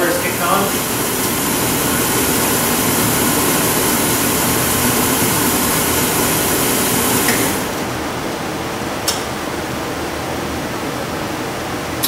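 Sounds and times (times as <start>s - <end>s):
blower rushing air: 0.0s - 11.8s
furnace humming: 0.0s - 12.0s.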